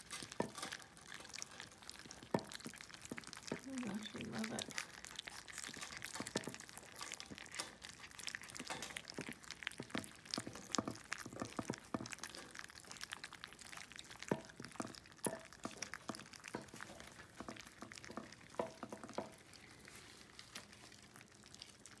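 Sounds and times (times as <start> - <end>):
puppies eating wet food: 0.0 - 22.0.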